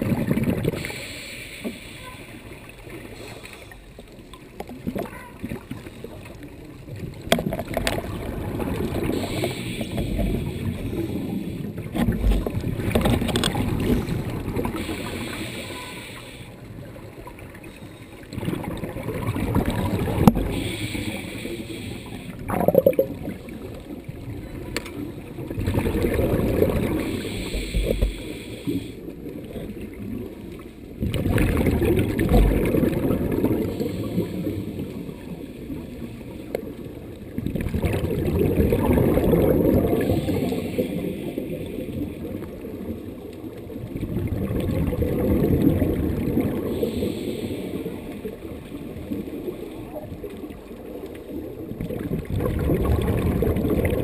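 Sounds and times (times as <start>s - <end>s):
underwater exhaled bubbles gurgling: 0.0s - 54.0s.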